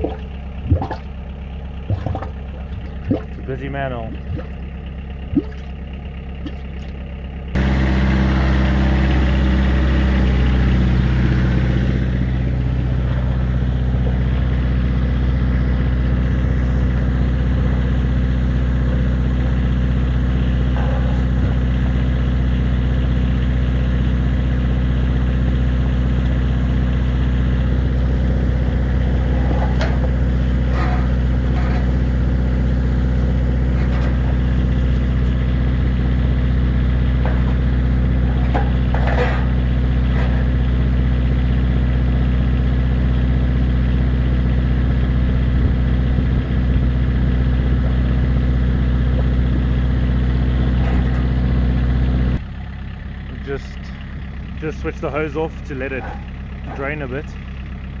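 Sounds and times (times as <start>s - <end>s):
drain-jetting machine engine and pump: 0.0s - 7.0s, 7.6s - 52.2s, 53.4s - 57.8s.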